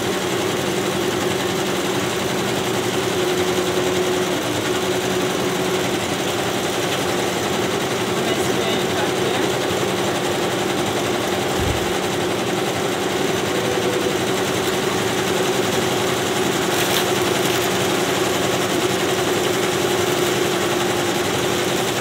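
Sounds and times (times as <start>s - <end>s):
constant machine hum: 0.0s - 22.0s
embroidery machines stitching: 0.2s - 22.0s.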